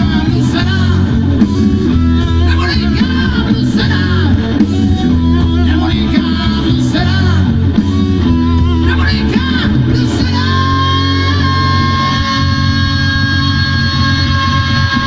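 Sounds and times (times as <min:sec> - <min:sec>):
bass: 0:00.0 - 0:15.0
drums: 0:00.0 - 0:15.0
electric guitar: 0:00.0 - 0:15.0.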